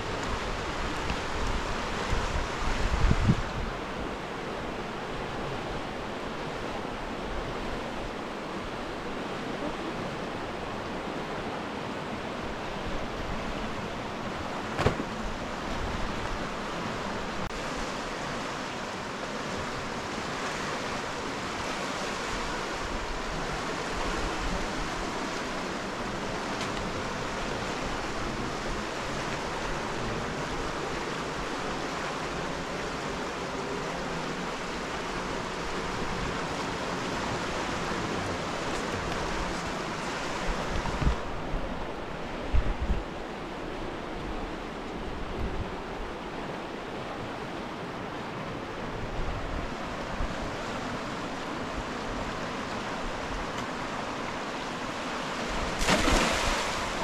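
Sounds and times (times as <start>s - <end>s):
turbulent river rushing: 0.0s - 57.0s.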